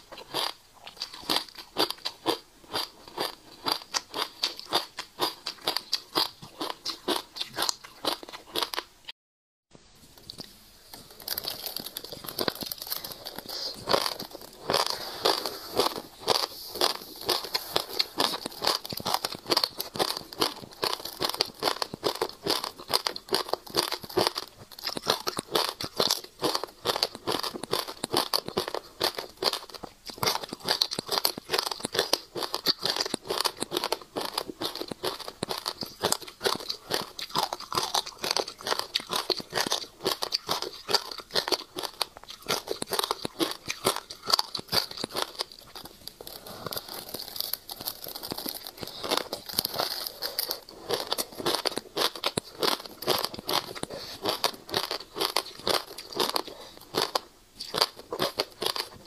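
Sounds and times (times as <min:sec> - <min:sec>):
seeds crunching and crackling: 0:00.1 - 0:08.9, 0:10.2 - 0:59.0.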